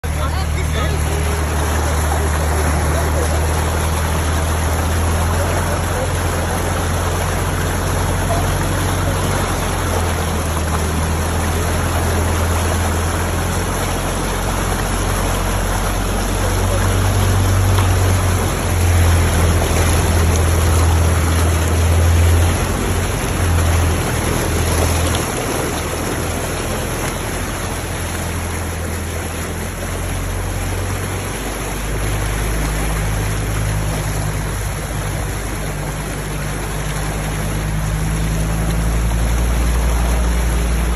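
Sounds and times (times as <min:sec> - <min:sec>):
diesel engine running under load: 0:00.0 - 0:40.9
water rushing and splashing: 0:00.0 - 0:40.9.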